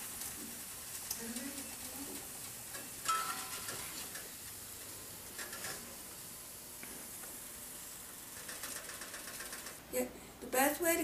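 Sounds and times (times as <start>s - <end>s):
sausage sizzling in hot oil: 0.0s - 11.0s.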